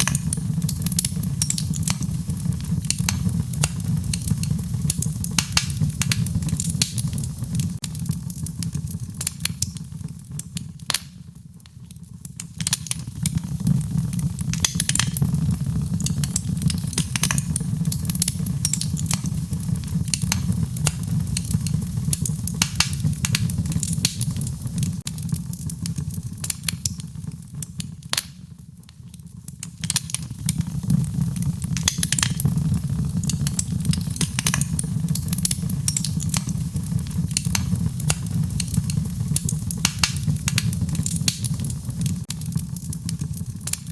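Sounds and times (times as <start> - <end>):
fireplace fire crackling: 0.0 - 43.9.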